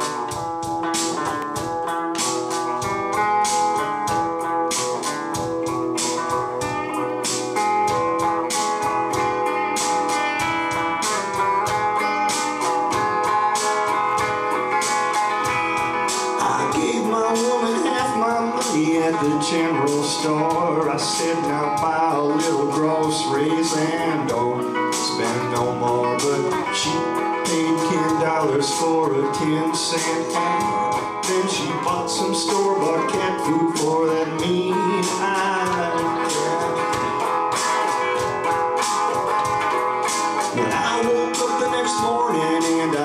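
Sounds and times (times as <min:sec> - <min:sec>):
electric guitar country instrumental: 0:00.0 - 0:43.0
steady beat: 0:00.0 - 0:43.0.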